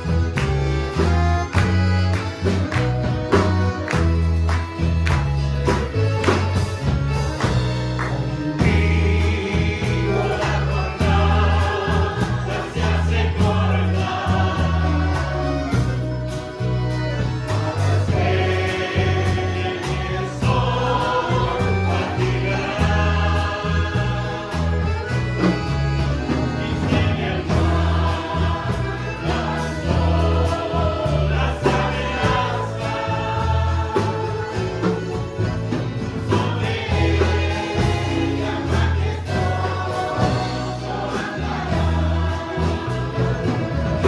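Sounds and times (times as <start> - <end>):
group singing together: 0.0 - 44.0
prominent bass line: 0.0 - 44.0
string band with accordion: 0.0 - 44.0.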